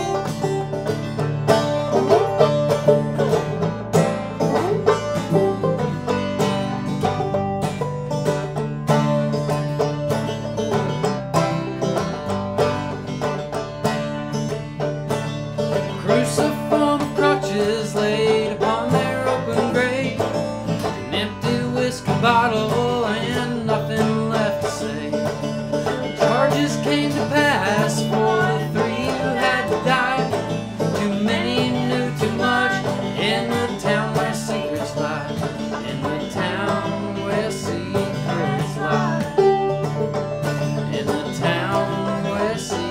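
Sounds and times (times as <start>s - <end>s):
banjo picking: 0.0s - 42.9s
strummed acoustic guitar: 0.0s - 42.9s.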